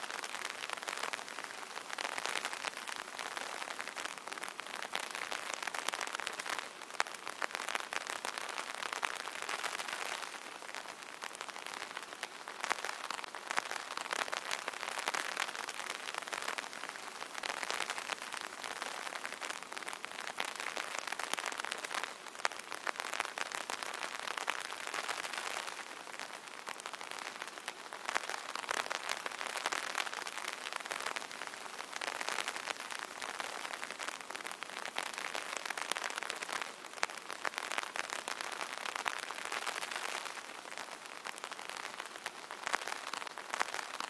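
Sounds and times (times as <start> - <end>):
rain pattering on umbrella: 0.0 - 44.0.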